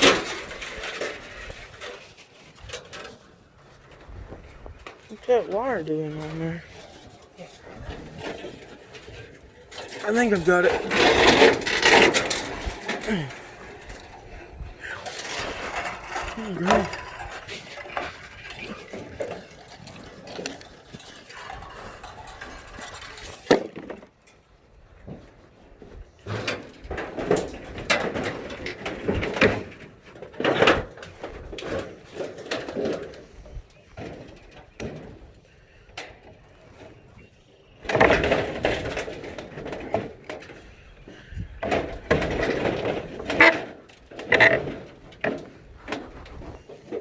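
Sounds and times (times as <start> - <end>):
boards and scrap crashing: 0.0 - 24.2, 26.2 - 35.4, 37.8 - 47.0.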